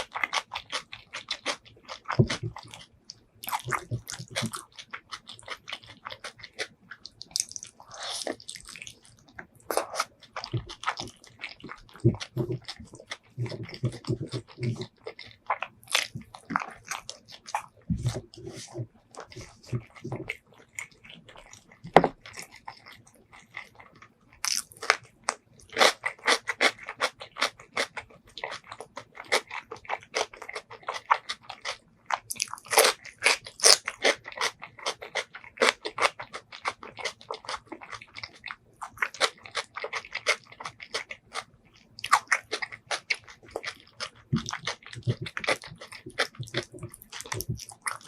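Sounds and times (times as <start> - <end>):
person chewing and biting food: 0.0 - 48.0.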